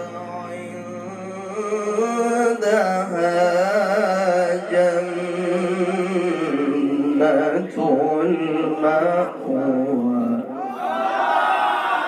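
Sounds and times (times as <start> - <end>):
man chanting melodically: 0.0 - 10.6.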